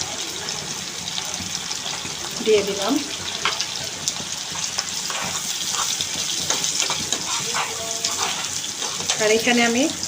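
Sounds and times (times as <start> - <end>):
onions sizzling in hot oil: 0.0 - 10.0
oil crackles: 1.2 - 10.0.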